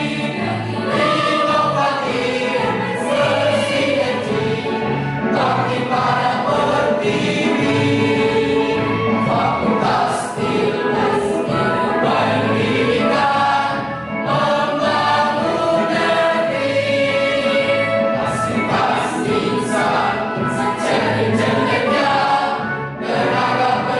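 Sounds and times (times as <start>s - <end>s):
mixed choir singing in harmony: 0.0s - 23.9s.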